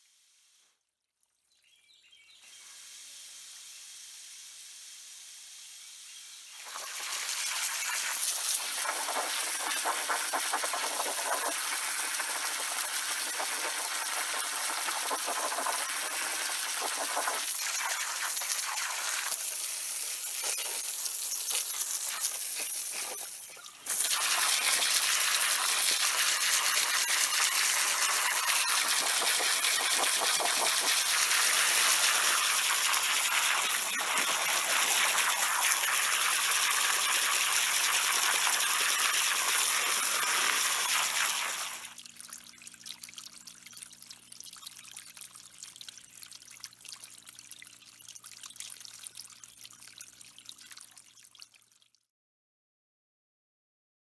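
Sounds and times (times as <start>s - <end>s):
garden hose water spraying: 2.2s - 51.6s
water splashing into pond: 6.4s - 52.0s.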